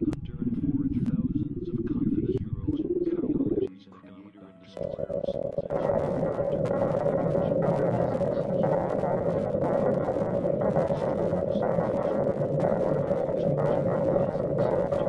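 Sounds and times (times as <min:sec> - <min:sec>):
distorted glitchy noise: 0:00.0 - 0:03.7, 0:04.8 - 0:15.0
steady hum-like tone: 0:00.0 - 0:03.7, 0:04.7 - 0:15.0.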